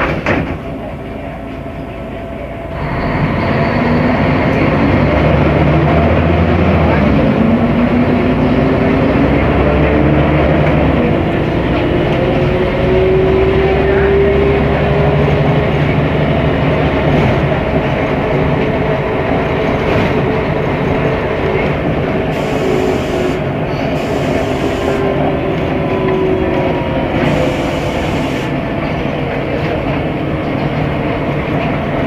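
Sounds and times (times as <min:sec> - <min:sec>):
bus engine and drivetrain whine: 0:00.0 - 0:32.0
road noise: 0:00.0 - 0:32.0.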